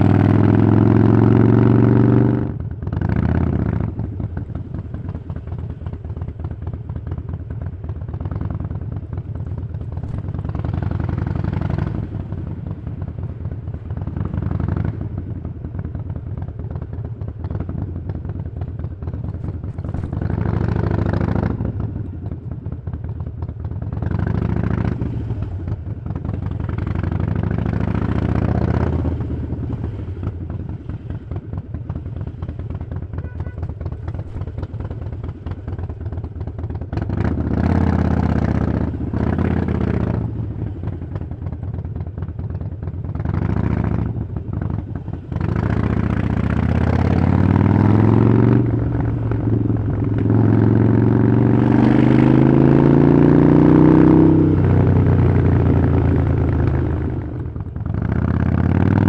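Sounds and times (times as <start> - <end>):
motorcycle engine revving: 0.0 - 6.4, 7.9 - 31.0, 31.9 - 59.0.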